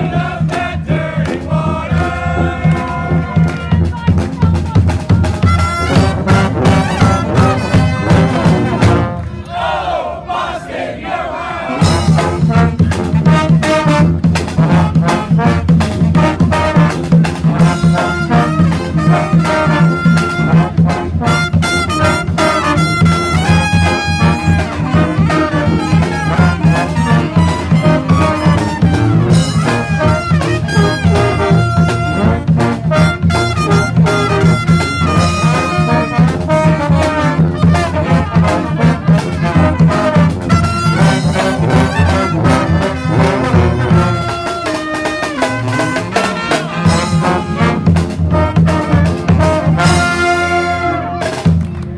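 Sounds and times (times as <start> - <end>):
steady drum beat: 0.0 - 9.2, 11.8 - 51.7
brass band playing: 0.0 - 51.9.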